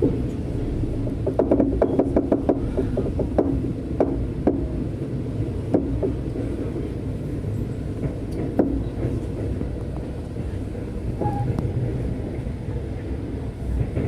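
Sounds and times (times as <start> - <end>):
train carriage rumbling: 0.0 - 14.0.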